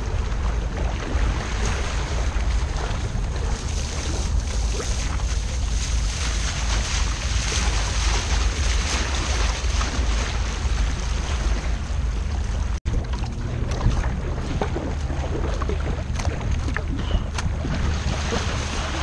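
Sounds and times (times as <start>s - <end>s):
water splashing around kayak: 0.0s - 19.0s
wind rumble on microphone: 0.0s - 19.0s.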